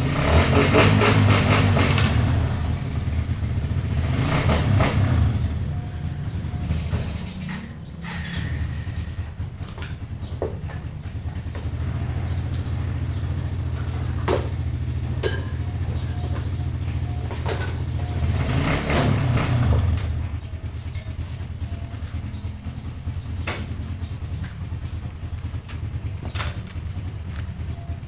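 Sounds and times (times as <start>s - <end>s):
passing vehicle: 0.0s - 28.0s
vehicle engine humming: 0.0s - 28.0s.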